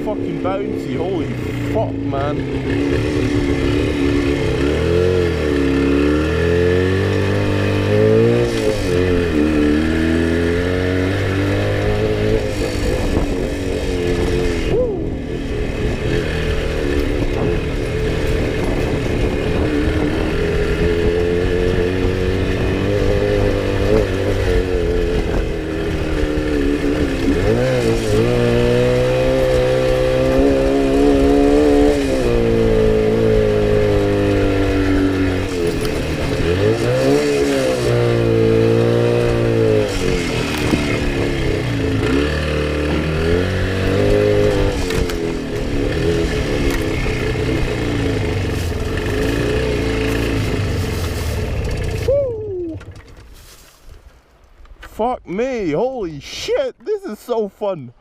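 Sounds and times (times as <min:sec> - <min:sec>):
motorcycle engine revving: 0:00.0 - 0:53.5.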